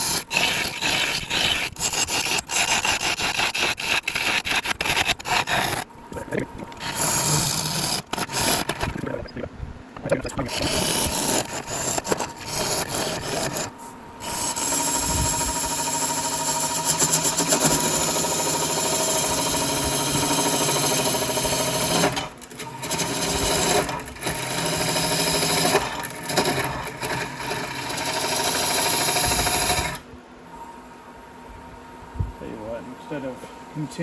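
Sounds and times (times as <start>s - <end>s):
wood lathe running: 0.0s - 5.9s, 6.6s - 9.0s, 10.4s - 30.0s.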